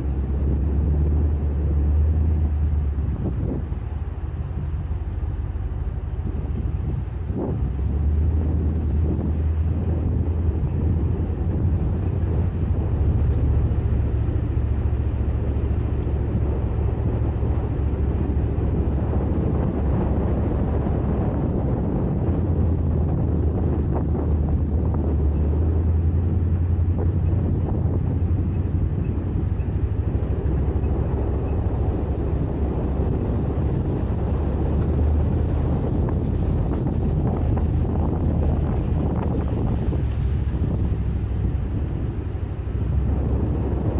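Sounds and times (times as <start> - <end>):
vehicle engine and tyres rumbling: 0.0 - 43.9
wind buffeting microphone: 0.0 - 43.9.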